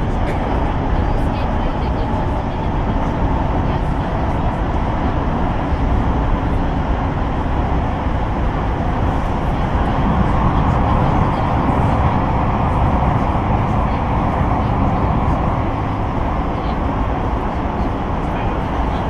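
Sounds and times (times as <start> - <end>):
metro train wheels rumbling: 0.0 - 19.0.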